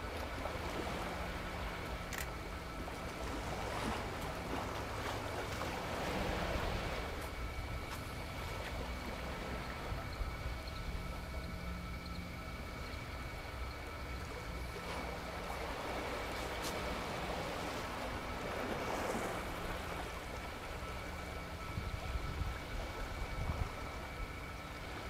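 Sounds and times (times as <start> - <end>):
small waves washing: 0.0 - 25.0.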